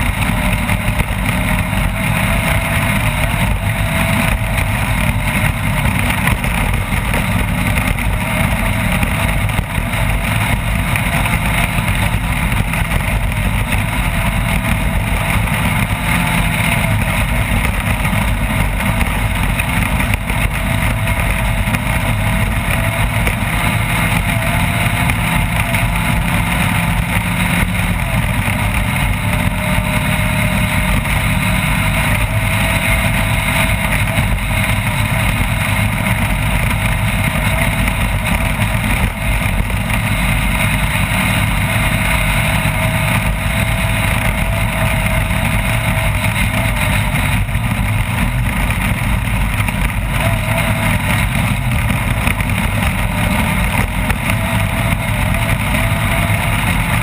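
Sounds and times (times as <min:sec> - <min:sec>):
race vehicle engine at speed: 0:00.0 - 0:57.0.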